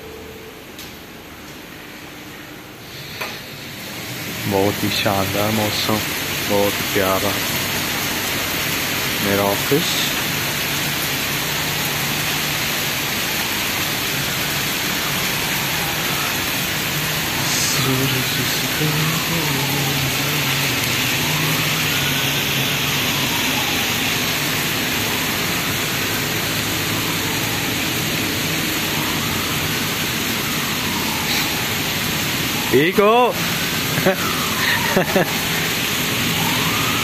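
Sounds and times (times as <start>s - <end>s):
rain on paving and foliage: 3.4s - 37.0s.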